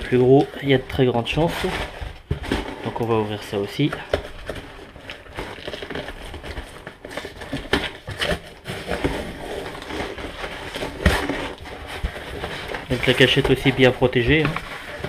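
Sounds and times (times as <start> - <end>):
cardboard box being handled: 1.3 - 15.0.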